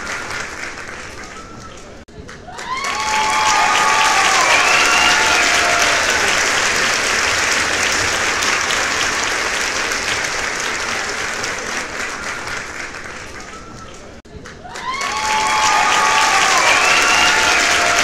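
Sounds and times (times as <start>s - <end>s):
crowd applause: 0.0s - 18.0s
crowd cheering: 0.0s - 18.0s.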